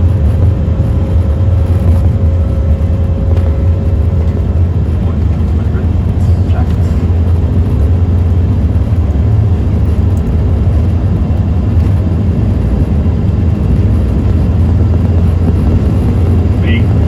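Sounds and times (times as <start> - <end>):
aircraft engine and airflow rumble: 0.0 - 17.0.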